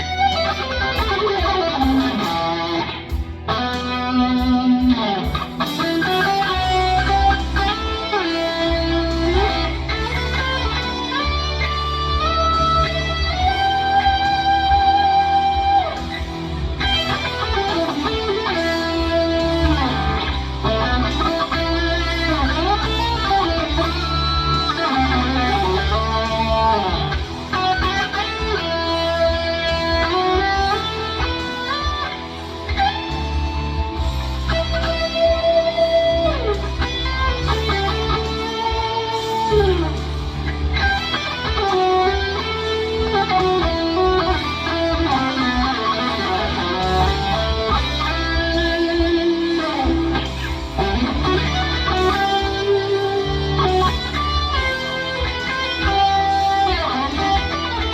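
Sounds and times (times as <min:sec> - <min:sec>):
bass and drums: 0:00.0 - 0:57.9
overdriven electric guitar lead: 0:00.0 - 0:57.9.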